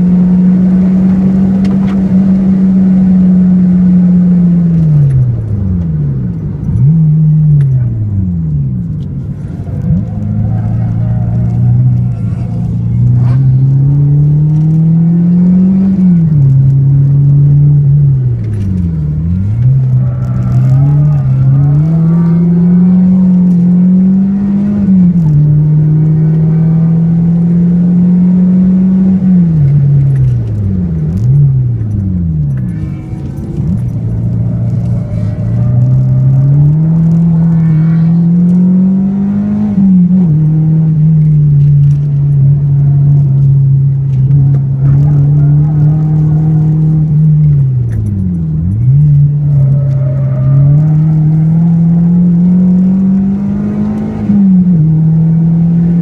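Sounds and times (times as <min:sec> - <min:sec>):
car engine revving at full throttle: 0:00.0 - 0:56.0.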